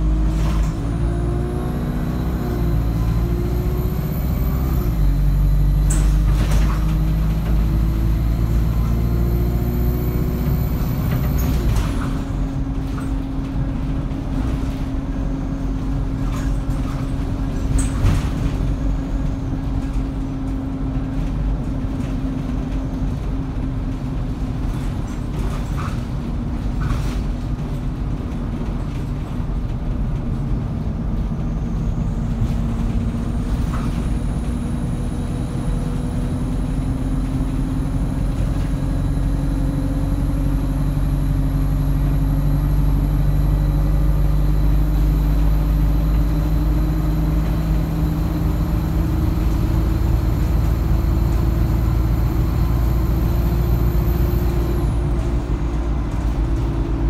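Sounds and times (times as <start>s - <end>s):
bus engine pulling hard: 0.0s - 57.0s.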